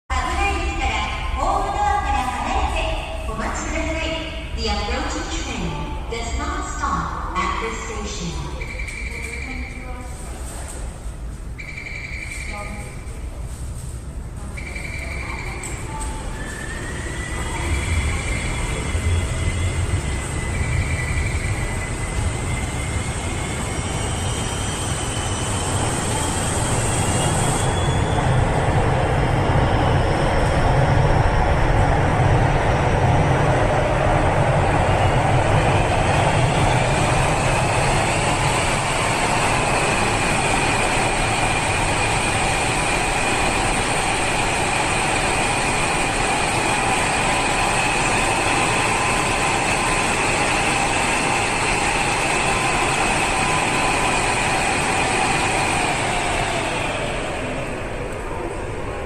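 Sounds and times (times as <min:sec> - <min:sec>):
train passing through station: 0:00.0 - 0:59.0.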